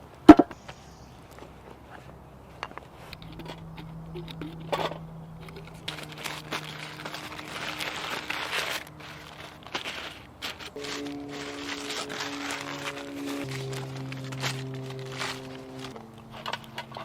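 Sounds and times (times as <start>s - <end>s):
crinkling and rustling: 1.3s - 17.0s.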